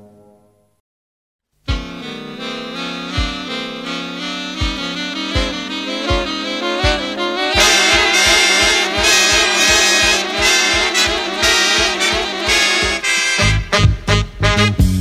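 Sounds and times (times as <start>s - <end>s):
deep bass line: 1.7s - 15.0s
jazz band with brass horns: 1.7s - 15.0s.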